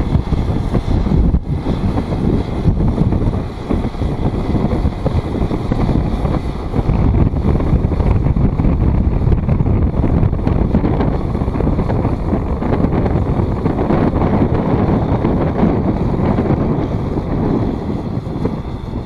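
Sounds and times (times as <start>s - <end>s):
diesel tractor running: 0.0s - 19.0s
wind buffeting microphone: 0.0s - 19.0s.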